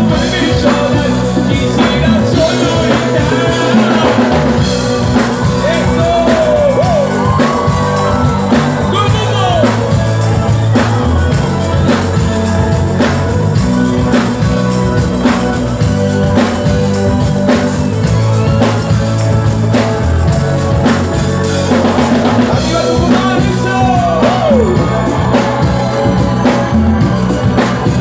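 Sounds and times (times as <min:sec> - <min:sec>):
person singing: 0:00.0 - 0:19.5, 0:21.8 - 0:28.0
live rock band playing: 0:00.0 - 0:28.0
steady drumbeat: 0:00.0 - 0:28.0.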